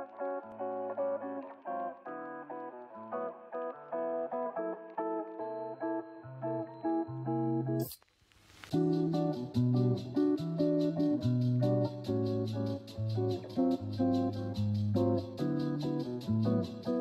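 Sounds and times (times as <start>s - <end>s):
plucked guitar music with beat: 0.0s - 7.9s, 8.7s - 17.0s.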